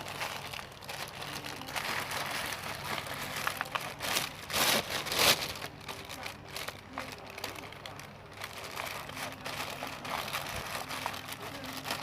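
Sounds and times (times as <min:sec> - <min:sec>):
material rustling and crinkling: 0:00.0 - 0:12.0.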